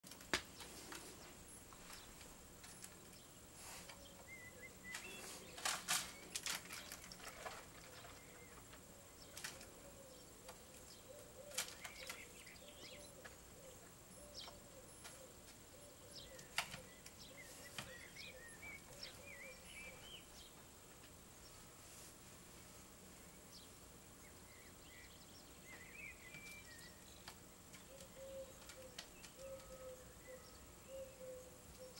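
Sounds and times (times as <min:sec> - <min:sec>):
bird calls chirping: 0:00.5 - 0:20.7, 0:23.3 - 0:31.9.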